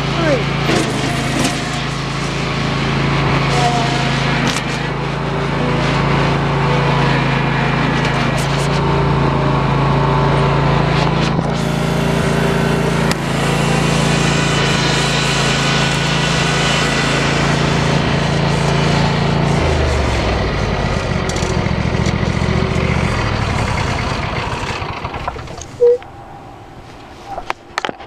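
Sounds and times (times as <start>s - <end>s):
lawn tractor engine running: 0.0s - 28.0s.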